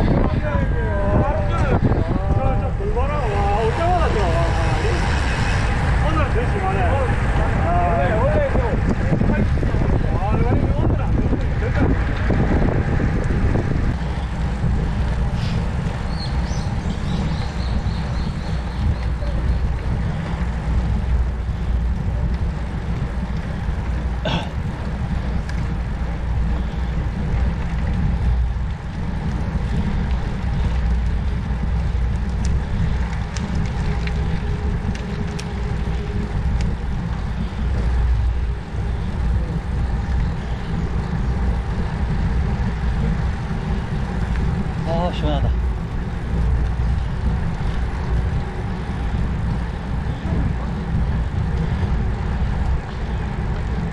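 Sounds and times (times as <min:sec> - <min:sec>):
road noise: 0:00.0 - 0:53.9
wind buffeting microphone: 0:00.0 - 0:53.9.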